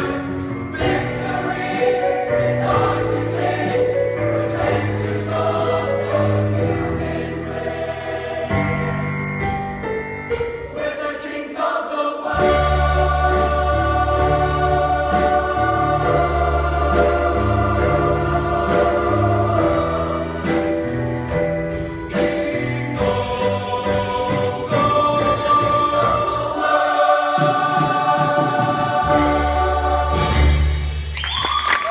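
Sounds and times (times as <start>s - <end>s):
choir singing held chords: 0.0s - 31.1s.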